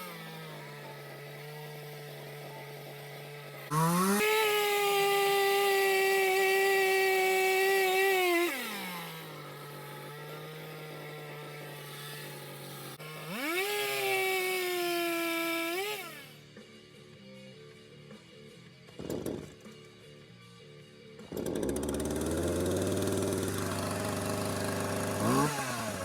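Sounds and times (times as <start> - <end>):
chainsaw engine revving and idling: 0.0 - 16.6, 21.2 - 26.0.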